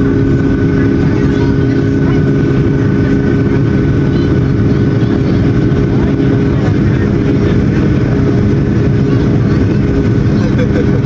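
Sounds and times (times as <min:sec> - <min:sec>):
high engine whine: 0:00.0 - 0:11.0
jet engines rumbling in cabin: 0:00.0 - 0:11.0.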